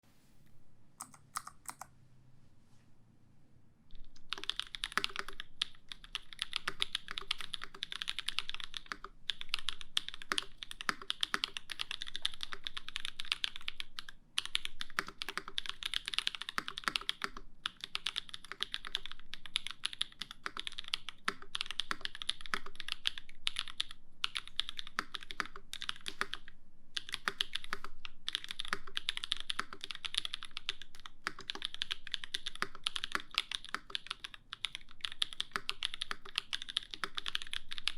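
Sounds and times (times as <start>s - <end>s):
fast typing on mechanical keyboard: 1.0s - 1.9s, 4.0s - 37.9s.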